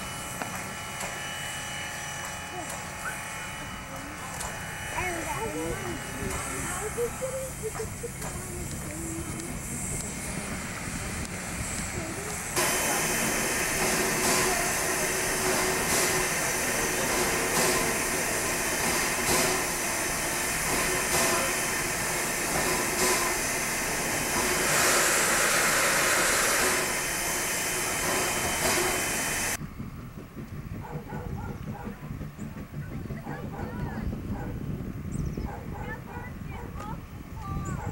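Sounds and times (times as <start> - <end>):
steam locomotive hissing: 0.0 - 34.9.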